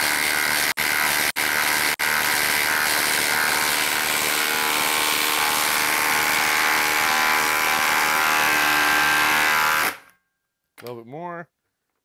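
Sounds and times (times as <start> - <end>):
impact driver rattling whine: 0.0 - 10.1.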